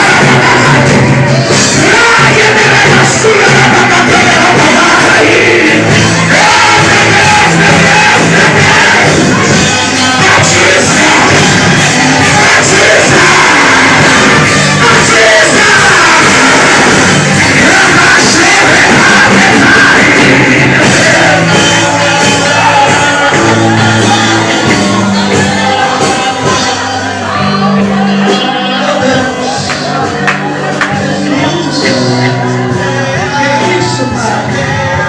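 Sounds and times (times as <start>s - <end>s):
loud worship music: 0.0s - 35.0s
voices singing and shouting: 0.0s - 35.0s.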